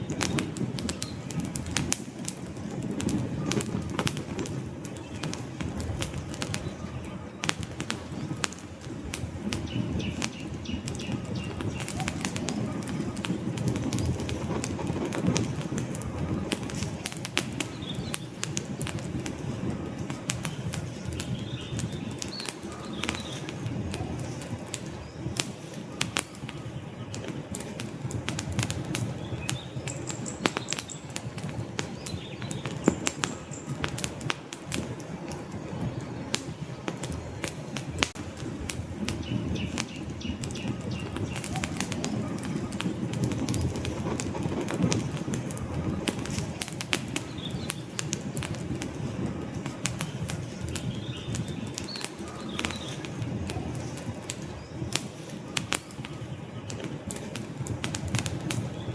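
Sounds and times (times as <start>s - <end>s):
log fire crackling: 0.0s - 58.9s
low rush of burning flame: 0.0s - 58.9s.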